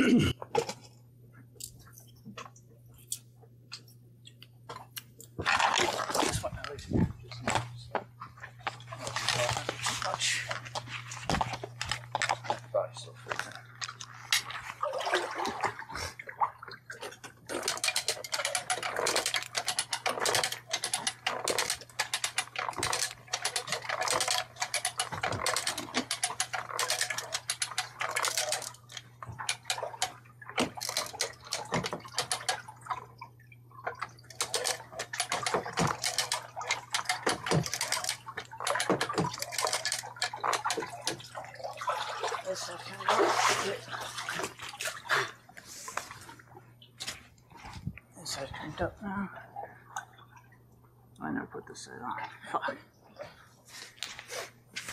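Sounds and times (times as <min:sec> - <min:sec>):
steady low hum: 0:00.0 - 0:54.8
water splashing and sloshing: 0:00.4 - 0:54.9.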